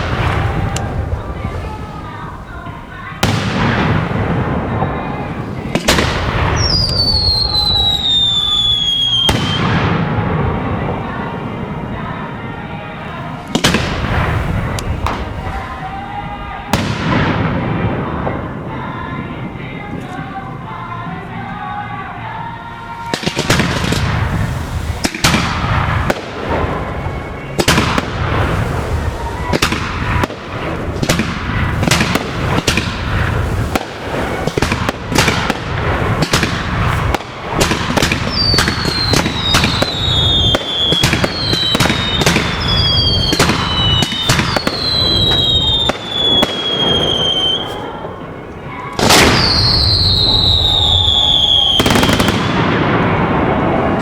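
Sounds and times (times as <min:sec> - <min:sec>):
whistling fireworks: 0:00.0 - 0:20.2, 0:22.9 - 0:54.0
fireworks bangs and crackles: 0:00.0 - 0:20.3, 0:23.0 - 0:54.0.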